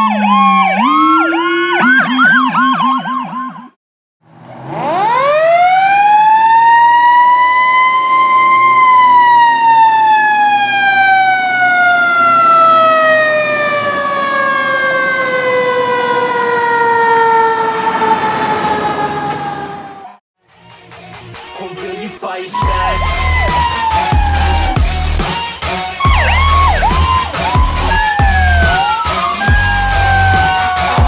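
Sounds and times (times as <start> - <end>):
mechanical fire truck siren: 0.0 - 3.8, 4.6 - 20.2, 22.6 - 31.0.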